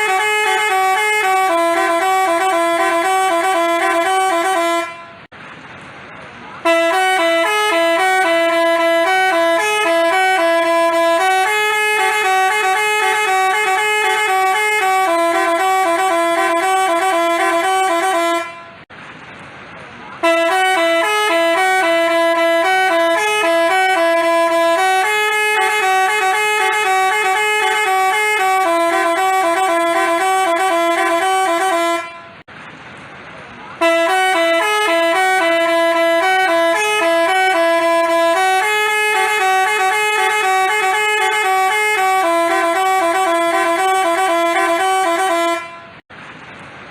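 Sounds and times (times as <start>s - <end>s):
bus horn playing a tune: 0.0s - 5.3s, 6.6s - 18.9s, 20.2s - 32.5s, 33.8s - 46.1s.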